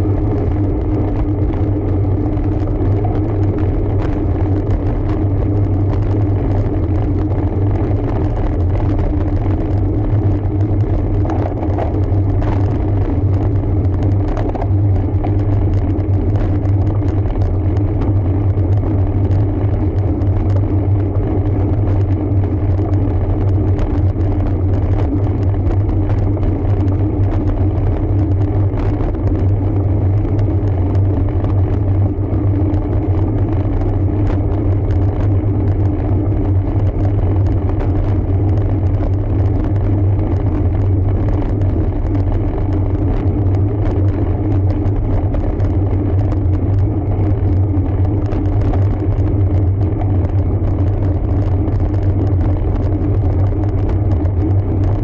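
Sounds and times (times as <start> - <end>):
tyre and road noise: 0.0 - 55.0
wind on microphone: 0.0 - 55.0.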